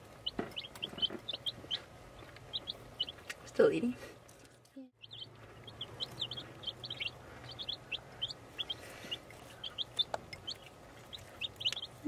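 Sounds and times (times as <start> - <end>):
chicks peeping: 0.0 - 3.8, 5.0 - 12.0.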